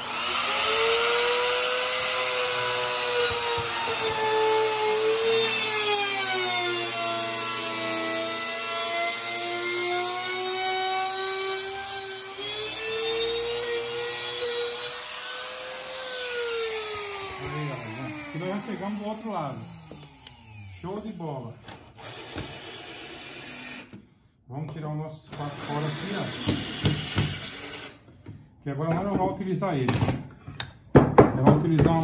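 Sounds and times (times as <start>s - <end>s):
router cutting wood: 0.0s - 24.0s, 25.3s - 28.0s.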